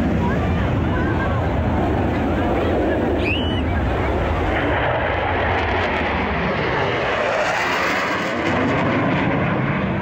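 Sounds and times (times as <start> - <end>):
jet roar overhead: 0.0 - 10.0.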